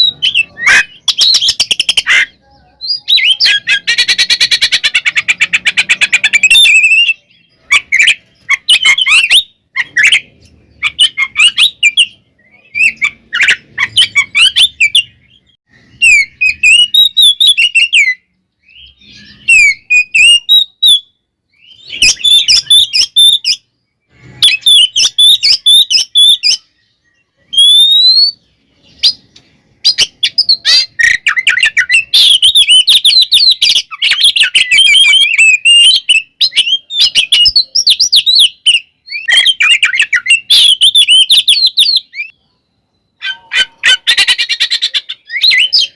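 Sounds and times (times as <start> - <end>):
bird singing whistles and chatter: 0.0 - 45.9.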